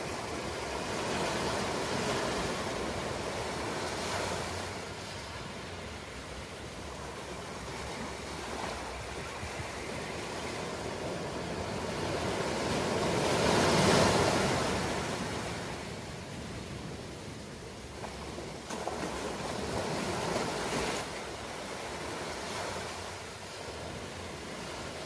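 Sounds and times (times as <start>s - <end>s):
ocean waves washing on shore: 0.0s - 25.0s.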